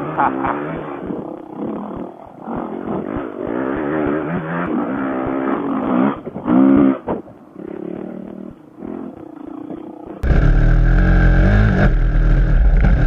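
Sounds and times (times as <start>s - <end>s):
dirt bike engine revving: 0.0s - 9.2s, 10.1s - 13.0s.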